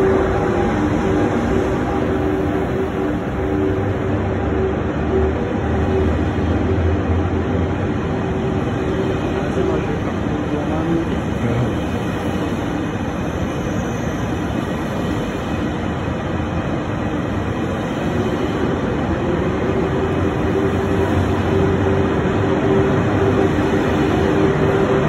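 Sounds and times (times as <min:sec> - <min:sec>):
train hum: 0:00.0 - 0:25.0
train rolling past: 0:00.0 - 0:25.0.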